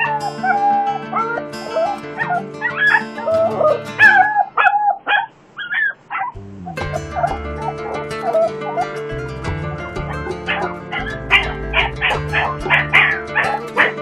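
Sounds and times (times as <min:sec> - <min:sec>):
music: 0:00.0 - 0:04.3, 0:06.4 - 0:14.0
dog whining and yipping: 0:00.0 - 0:06.4, 0:07.0 - 0:09.1, 0:10.1 - 0:14.0.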